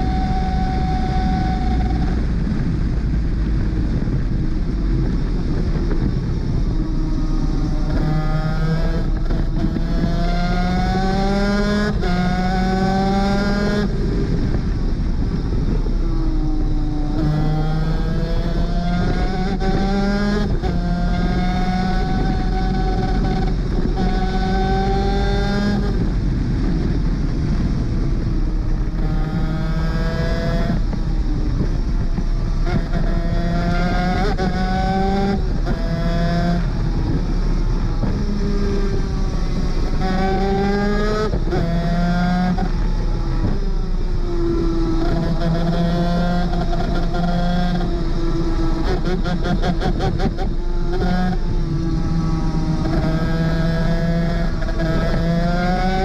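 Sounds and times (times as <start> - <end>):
two-stroke kart engine racing: 0.0 - 56.0.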